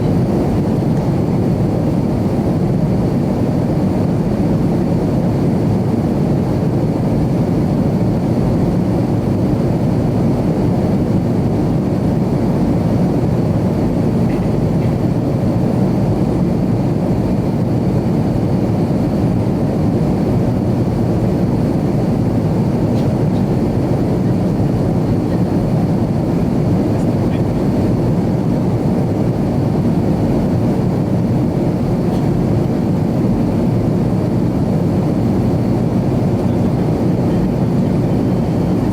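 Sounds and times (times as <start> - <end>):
jet engine drone: 0.0 - 38.9.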